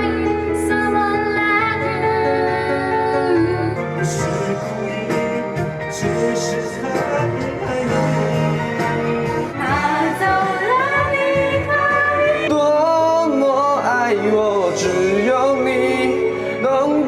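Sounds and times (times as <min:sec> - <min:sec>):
person singing: 0:00.0 - 0:17.0
pop backing music: 0:00.0 - 0:17.0.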